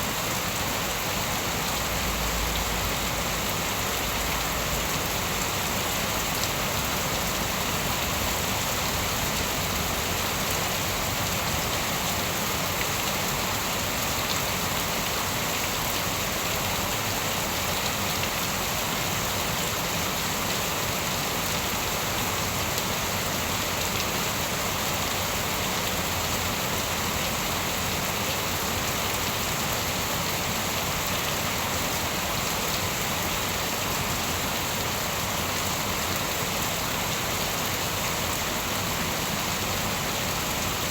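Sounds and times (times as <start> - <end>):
rain pattering: 0.1 - 40.9.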